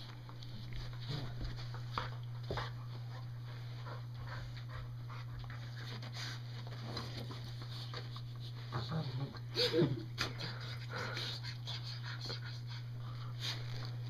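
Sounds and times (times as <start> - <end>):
dogs breathing and snuffling: 0.0 - 9.5, 10.2 - 14.0.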